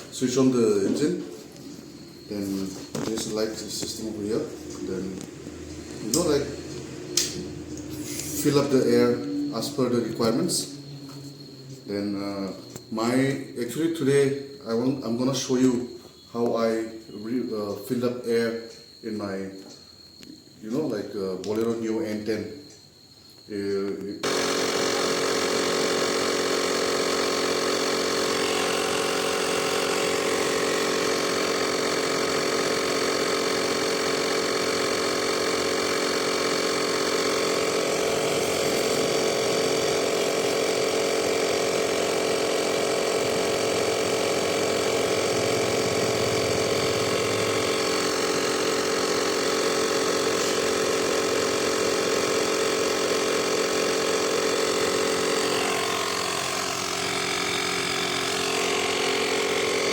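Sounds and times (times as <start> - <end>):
tyre inflator compressor buzzing: 0.0 - 59.9.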